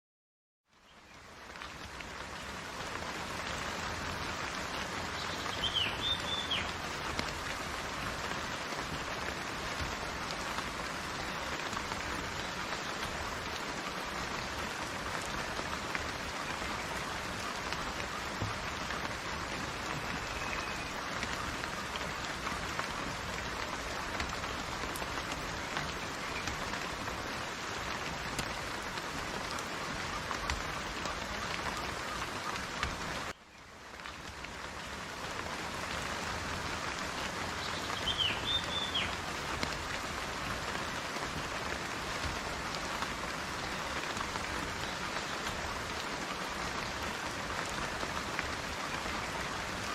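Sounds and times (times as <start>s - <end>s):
steady rain falling: 0.6s - 49.9s.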